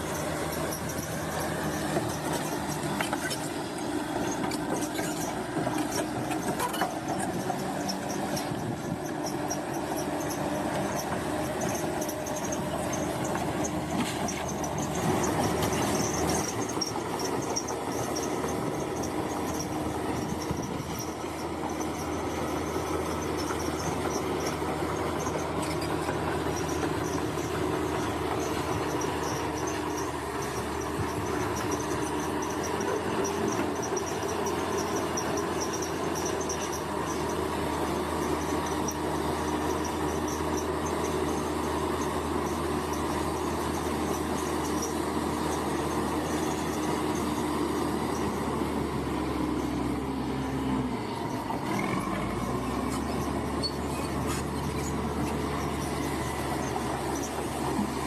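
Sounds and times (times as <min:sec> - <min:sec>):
bulldozer diesel engine: 0:00.0 - 0:58.0
grinding metallic track noise: 0:00.0 - 0:58.0
insects chirping: 0:07.6 - 0:58.0.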